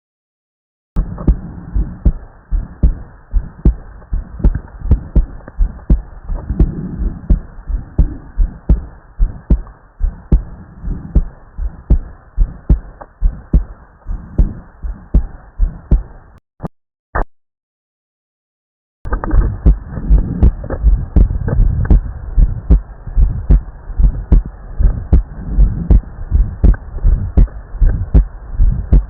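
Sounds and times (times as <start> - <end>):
low rumble of body noise: 1.0 - 16.2, 19.2 - 29.0
heartbeat lub-dub thuds: 1.0 - 16.4, 19.1 - 29.0.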